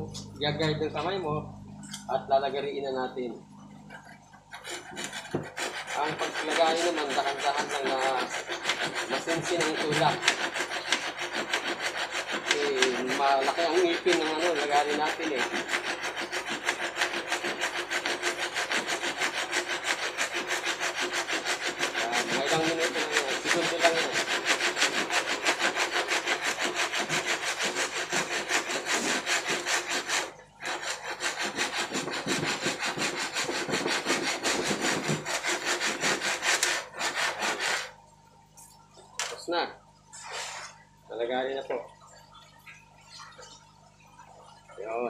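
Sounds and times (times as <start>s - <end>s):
handsaw cutting wood: 2.3s - 38.0s, 40.2s - 40.8s.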